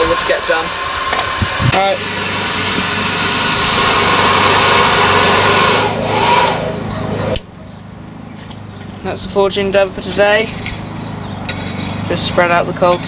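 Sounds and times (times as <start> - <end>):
air blower running: 0.0 - 13.0.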